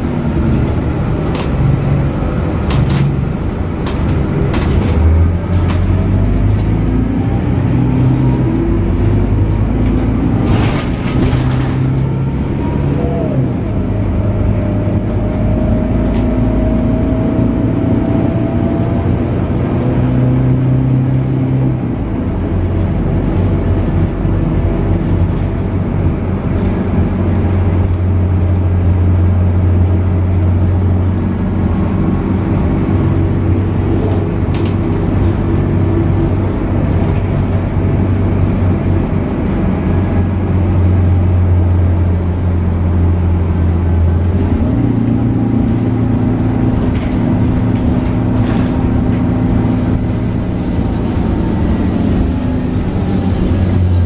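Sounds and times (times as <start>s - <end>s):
diesel bus engine droning: 0.0s - 54.0s
road noise: 0.0s - 54.0s.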